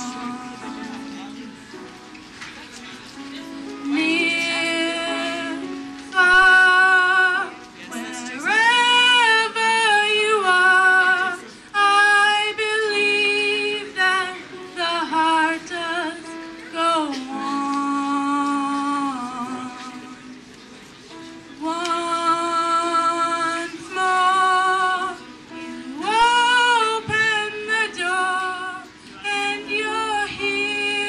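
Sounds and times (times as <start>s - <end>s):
woman singing: 0.0s - 1.1s, 3.8s - 20.4s, 21.6s - 31.0s.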